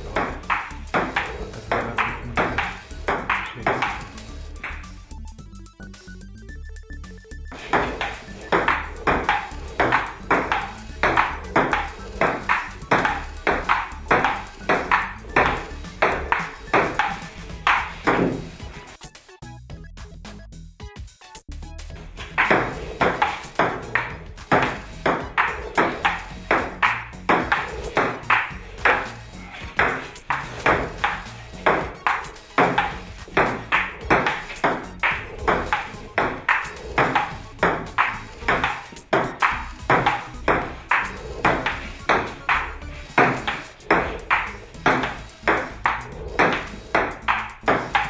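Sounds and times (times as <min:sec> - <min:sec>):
ping-pong ball clicking: 0:00.0 - 0:05.0, 0:07.5 - 0:18.5, 0:22.3 - 0:48.0.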